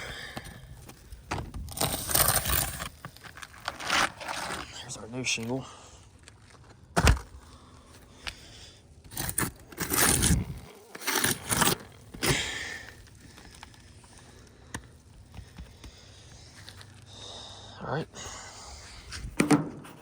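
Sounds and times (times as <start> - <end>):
roof shingle crinkling and scraping: 0.0 - 17.4.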